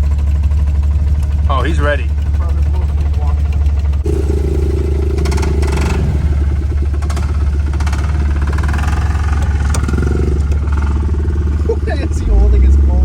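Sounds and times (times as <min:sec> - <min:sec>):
engines low rumble: 0:00.0 - 0:13.0
higher steady engine note: 0:00.0 - 0:13.0
rough uneven engine running: 0:00.0 - 0:13.0.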